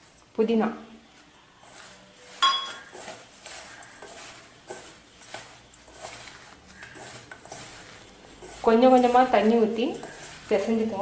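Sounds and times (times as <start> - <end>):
fingers rubbing dry mix in bowl: 1.6 - 11.0.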